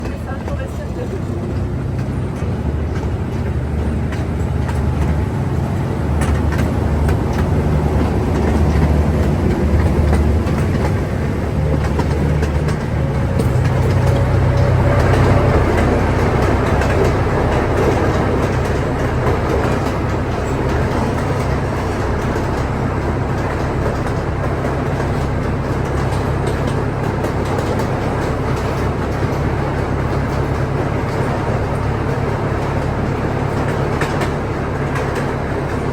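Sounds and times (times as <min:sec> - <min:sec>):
train rumbling on rails: 0:00.0 - 0:35.9.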